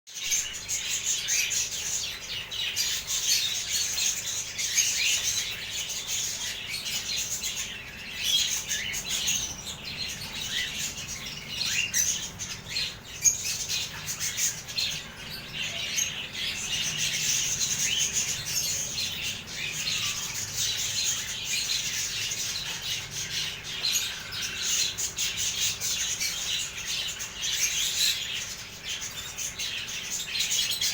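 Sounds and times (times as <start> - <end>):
flock of finches chirping: 0.1 - 30.9.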